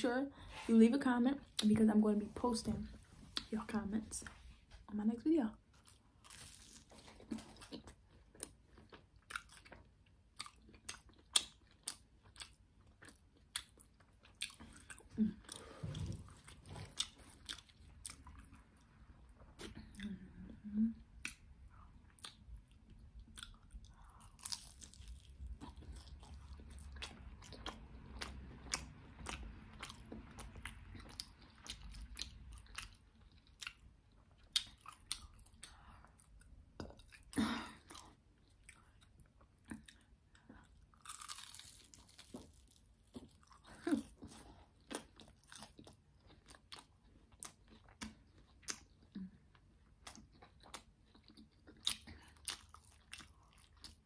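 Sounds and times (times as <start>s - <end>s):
crunchy chewing: 5.8s - 18.7s, 21.2s - 37.3s, 38.6s - 49.2s, 50.0s - 54.0s.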